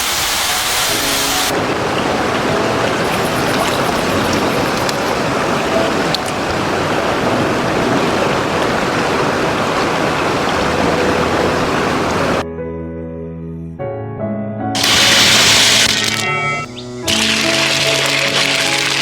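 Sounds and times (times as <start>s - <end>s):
brook water flowing: 0.0s - 12.4s, 14.8s - 19.0s.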